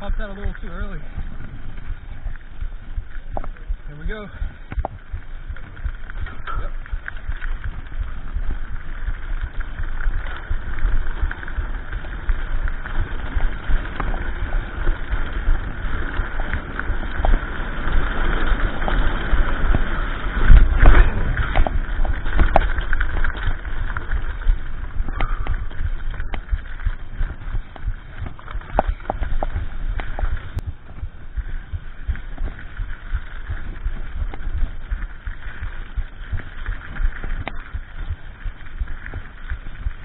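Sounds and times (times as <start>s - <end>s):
bike jolt: 0.0s - 40.0s
bike rattling: 0.0s - 40.0s
bike tyres rumbling on dirt: 0.0s - 40.0s.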